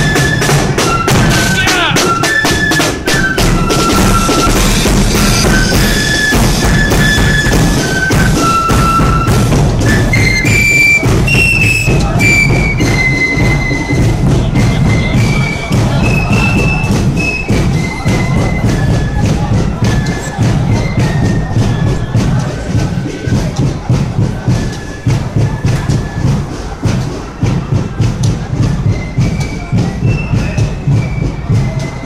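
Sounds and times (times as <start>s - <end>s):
cymbals: 0.0s - 32.0s
high flute melody: 0.0s - 32.0s
bass drum beating: 3.0s - 30.0s.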